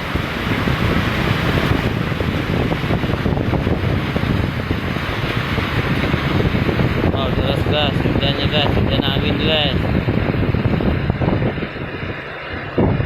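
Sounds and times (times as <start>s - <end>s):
heavy rain hiss: 0.0s - 13.0s
wind buffeting microphone: 0.0s - 13.0s.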